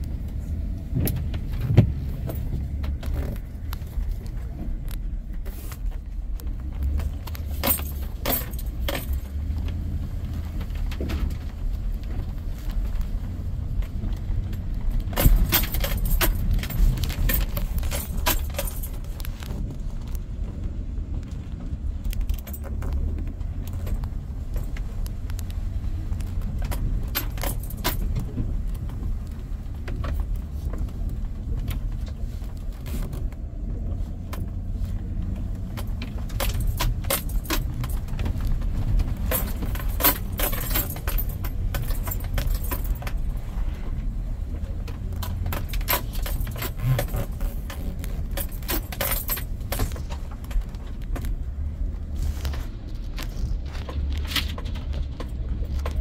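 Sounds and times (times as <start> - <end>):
steady low rumble: 0.0 - 56.0
jingling and rattling clicks: 6.4 - 20.2, 21.2 - 33.6, 34.2 - 43.5, 44.5 - 56.0.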